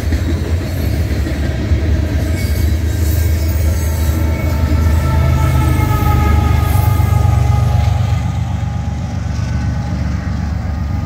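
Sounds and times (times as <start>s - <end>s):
freight train rumbling past: 0.0s - 11.0s
locomotive high whine: 0.0s - 11.0s.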